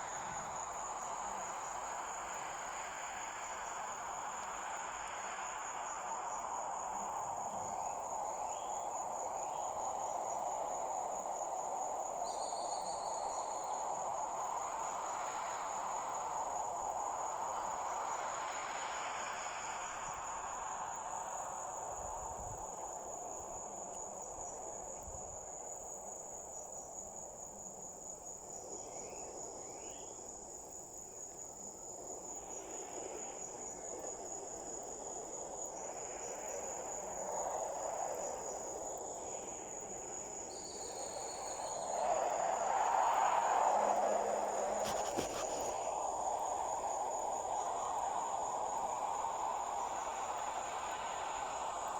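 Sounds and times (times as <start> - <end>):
insects trilling: 0.0 - 51.9
soft hiss: 0.0 - 51.9.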